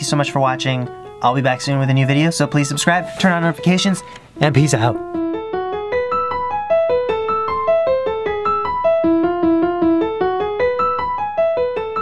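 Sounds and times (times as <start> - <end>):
keyboard playing a quick melody: 0.0 - 12.0.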